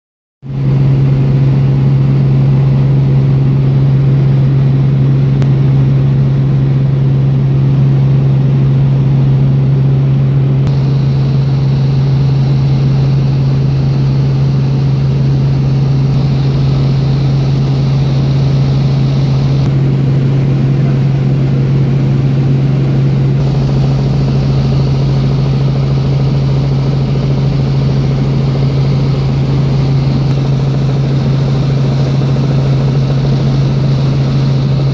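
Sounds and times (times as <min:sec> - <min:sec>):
helicopter engine and rotor drone: 0:00.4 - 0:34.9.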